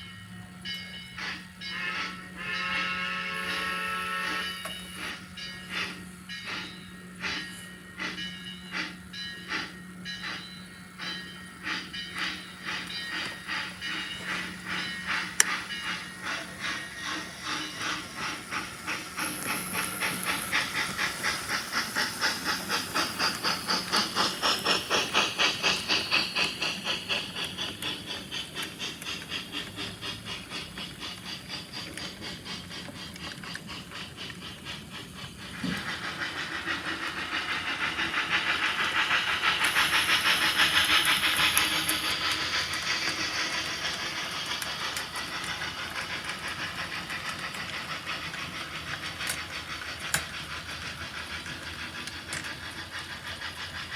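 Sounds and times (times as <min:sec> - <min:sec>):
model train running on track: 0:00.0 - 0:53.9.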